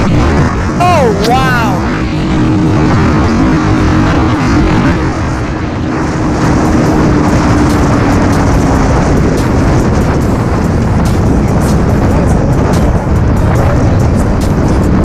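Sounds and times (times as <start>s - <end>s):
wind rush on microphone: 0.0s - 15.0s
motorcycle engine at high speed: 1.8s - 15.0s.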